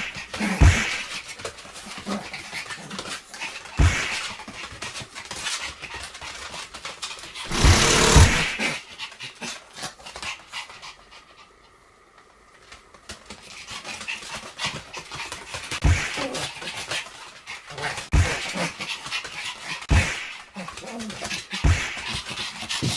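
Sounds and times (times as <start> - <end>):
dog panting: 0.0 - 11.7, 13.1 - 22.9
dogs scuffling: 0.2 - 11.1, 12.5 - 22.9.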